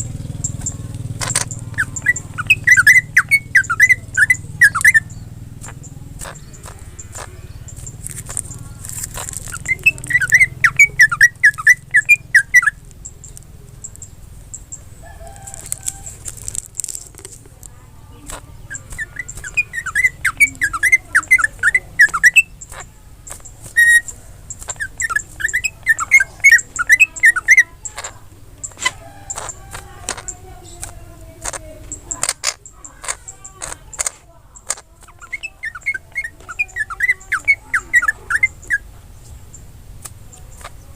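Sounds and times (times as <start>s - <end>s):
bird singing rapid high notes: 0.0s - 16.5s, 17.9s - 40.9s
sharp clicks: 0.0s - 38.8s, 39.5s - 40.9s.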